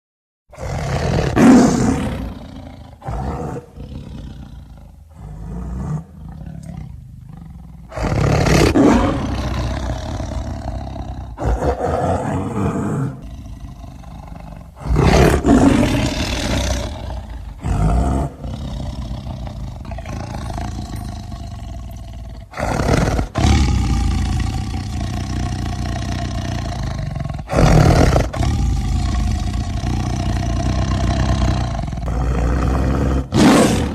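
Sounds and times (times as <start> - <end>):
tiger growling: 0.5 - 33.9
tiger roaring: 0.5 - 33.9.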